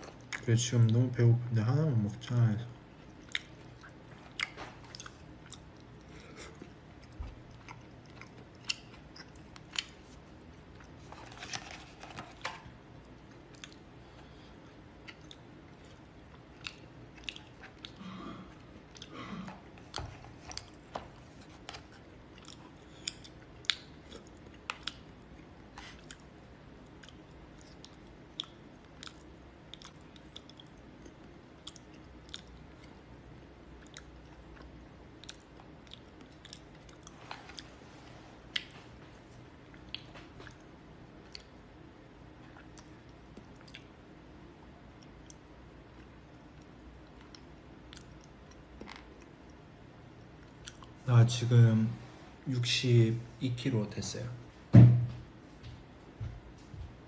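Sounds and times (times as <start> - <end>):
chewing and mouth noises: 3.0 - 39.0, 39.6 - 44.0, 44.9 - 51.0.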